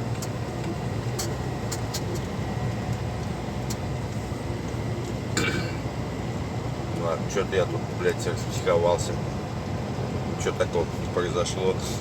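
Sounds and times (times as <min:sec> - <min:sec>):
truck cab road and engine rumble: 0:00.0 - 0:12.0.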